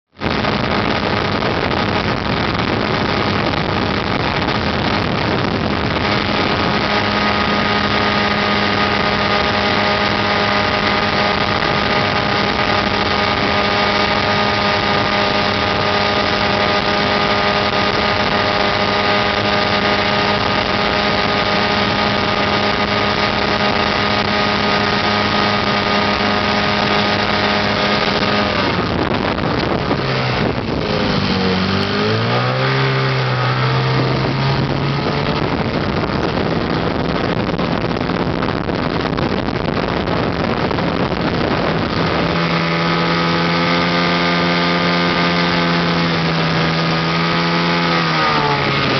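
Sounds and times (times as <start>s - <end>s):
outboard motor running: 0.1s - 48.9s.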